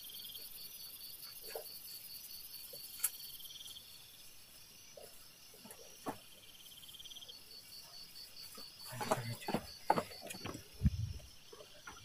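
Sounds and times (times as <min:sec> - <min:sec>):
crickets chirping: 0:00.0 - 0:12.0
lower insect trill: 0:00.0 - 0:12.0.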